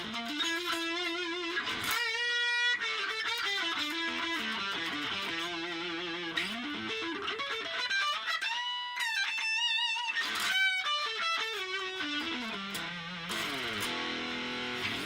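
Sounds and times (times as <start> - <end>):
electric guitar lead line: 0.0 - 15.0.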